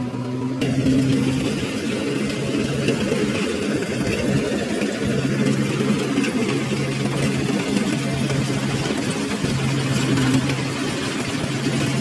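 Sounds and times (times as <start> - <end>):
combine harvester engine drone: 0.0 - 12.0
machinery rattling: 0.0 - 12.0.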